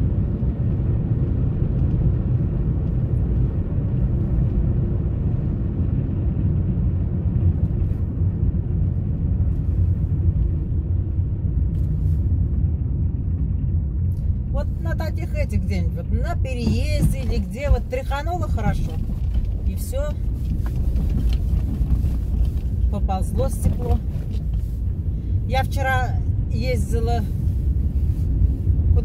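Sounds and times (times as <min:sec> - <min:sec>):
road and engine rumble: 0:00.0 - 0:29.0.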